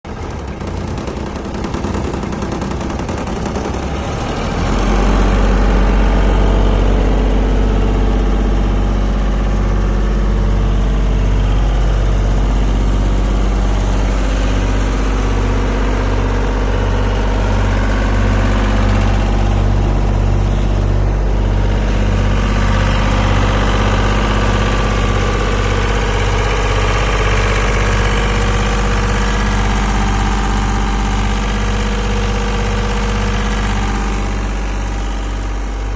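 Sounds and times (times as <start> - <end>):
air compressor engine running: 0.0 - 35.9.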